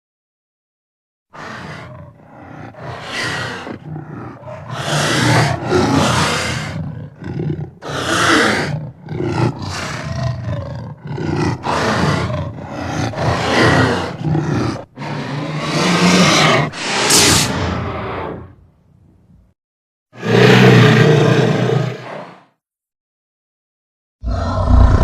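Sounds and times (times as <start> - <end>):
creature roars and growls: 1.4 - 18.6, 20.2 - 22.5, 24.2 - 25.0.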